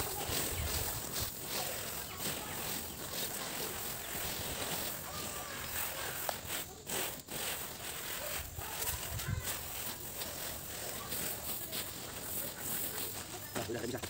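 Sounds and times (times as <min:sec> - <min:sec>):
feet shuffling through rice grain: 0:00.0 - 0:14.0.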